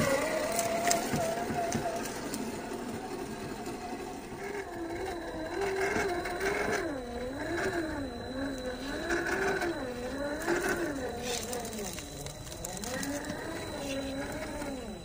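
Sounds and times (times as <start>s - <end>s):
rc car electric motor whining: 0.0s - 15.0s.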